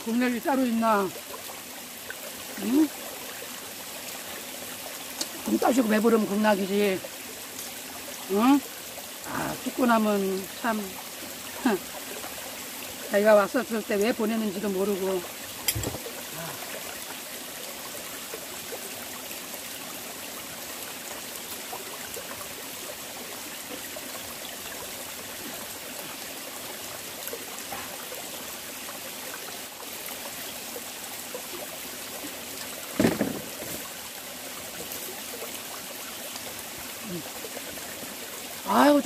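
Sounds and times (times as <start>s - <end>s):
stream babbling over rocks: 0.0s - 39.0s.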